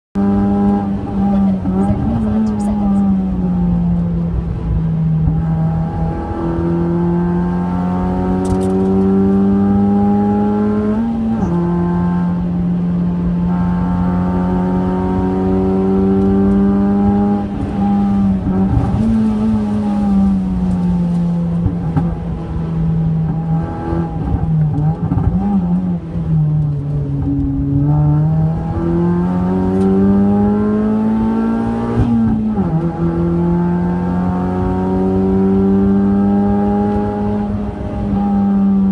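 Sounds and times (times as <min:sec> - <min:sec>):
car engine accelerating: 0:00.2 - 0:38.9.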